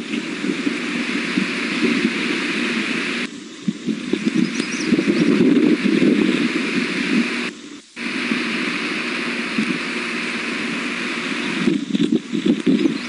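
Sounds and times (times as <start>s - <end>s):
rushing wind noise: 0.0s - 13.0s.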